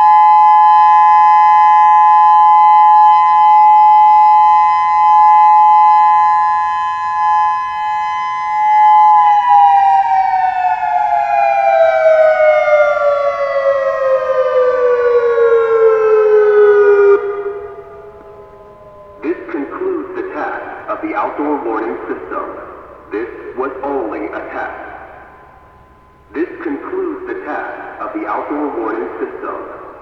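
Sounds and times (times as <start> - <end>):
electronic warning siren winding down: 0.0 - 30.0.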